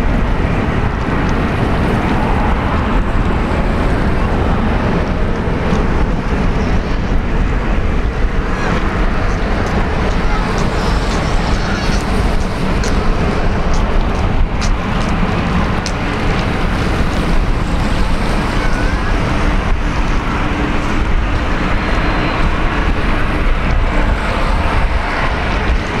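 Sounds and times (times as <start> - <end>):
jet engine noise: 0.0 - 26.0
wind buffeting microphone: 0.0 - 26.0.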